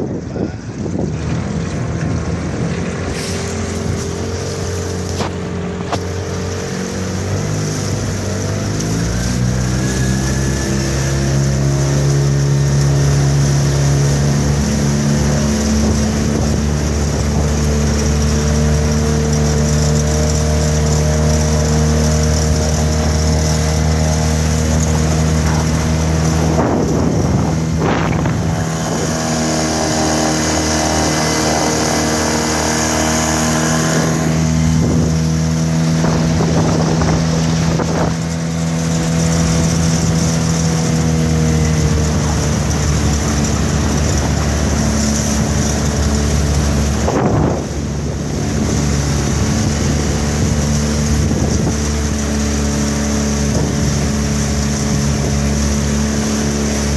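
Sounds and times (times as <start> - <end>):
outboard motor running: 0.0 - 56.9
wind noise on microphone: 0.0 - 56.9.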